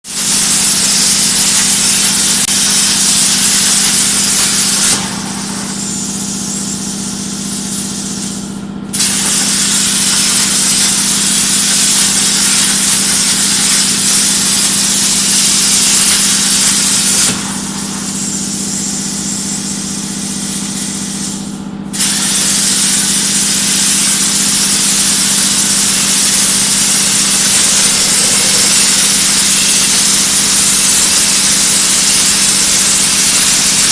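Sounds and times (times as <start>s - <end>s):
plasma torch hissing: 0.1s - 33.9s.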